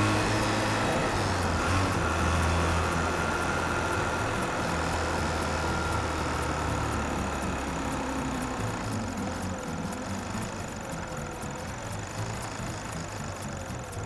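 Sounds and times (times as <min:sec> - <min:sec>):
rotary engine running under load: 0:00.0 - 0:14.0.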